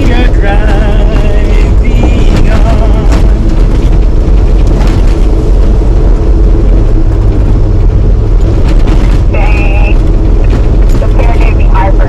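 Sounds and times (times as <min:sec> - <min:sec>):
vehicle driving on road: 0:00.0 - 0:12.0.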